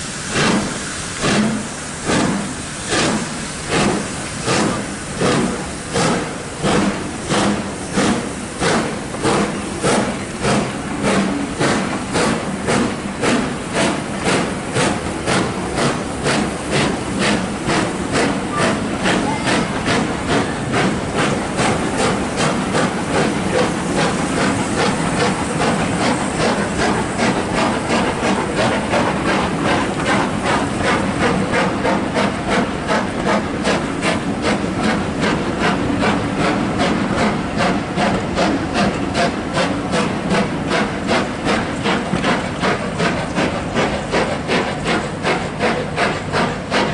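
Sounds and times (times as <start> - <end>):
hiss of steam: 0.0 - 46.9
steam locomotive exhaust beats: 0.0 - 46.9.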